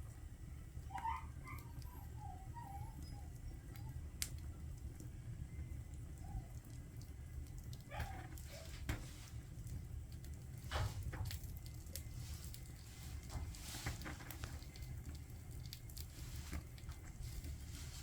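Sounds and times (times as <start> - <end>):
furnace low rumble: 0.0 - 18.0
firewood crackling and popping: 3.3 - 18.0.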